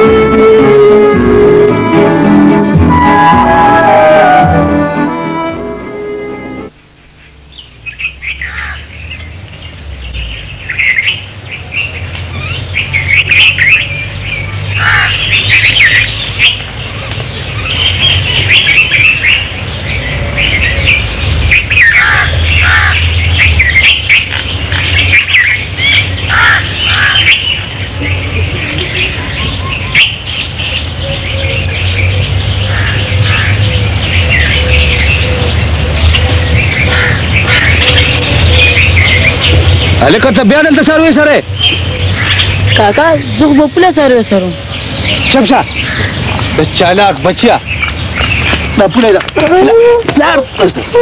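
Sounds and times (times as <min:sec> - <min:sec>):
birds chirping and calling: 0:07.5 - 0:51.0.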